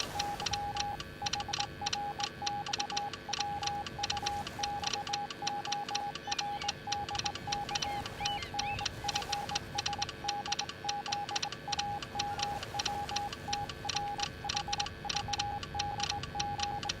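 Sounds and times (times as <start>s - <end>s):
morse code beeping: 0.0s - 17.0s.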